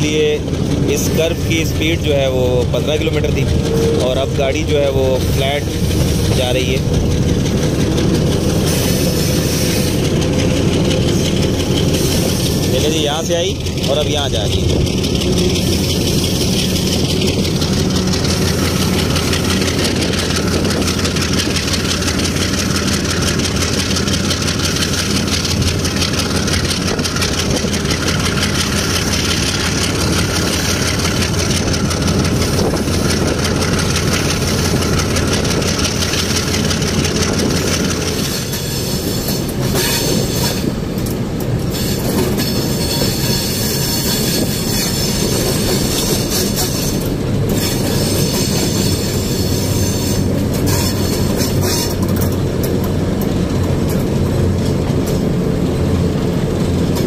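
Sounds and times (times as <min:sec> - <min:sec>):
locomotive engine drone: 0:00.0 - 0:57.0
train wheels clattering on track: 0:00.0 - 0:57.0.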